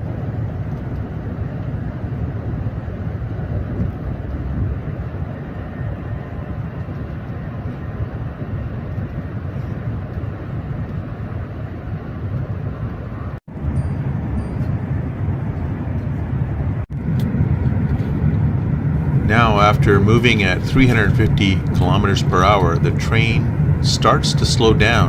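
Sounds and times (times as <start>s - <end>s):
high-speed train rumbling: 0.0s - 25.0s.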